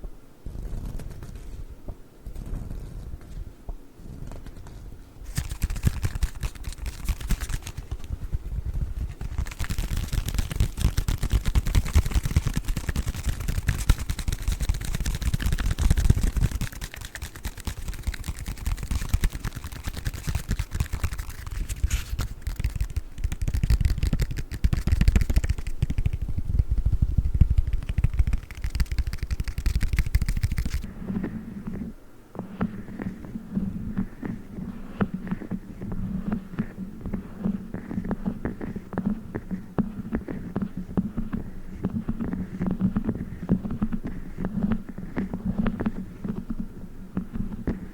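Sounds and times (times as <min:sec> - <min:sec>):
steady low hum: 0:00.0 - 0:47.9
tapping and scratching on object: 0:04.0 - 0:26.4, 0:27.3 - 0:47.9.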